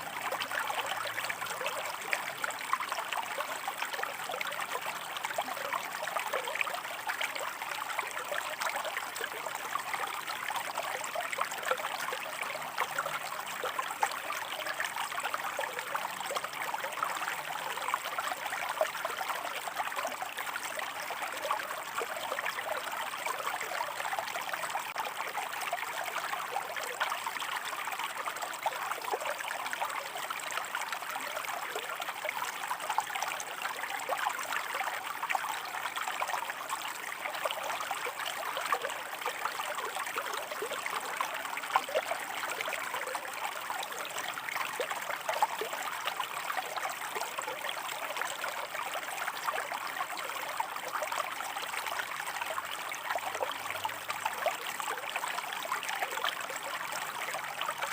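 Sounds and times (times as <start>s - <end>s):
stream running over rocks: 0.0s - 57.9s.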